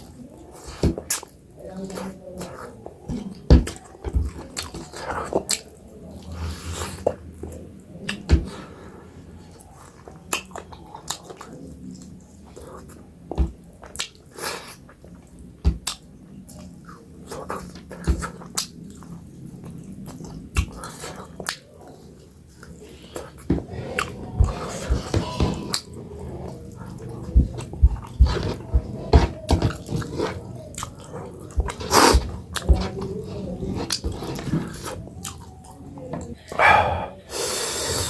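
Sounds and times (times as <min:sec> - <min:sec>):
chewing: 0:00.0 - 0:13.0, 0:13.8 - 0:37.2.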